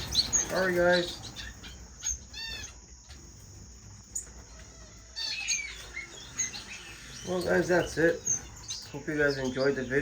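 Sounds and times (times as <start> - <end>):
finches chirping: 0.0 - 10.0.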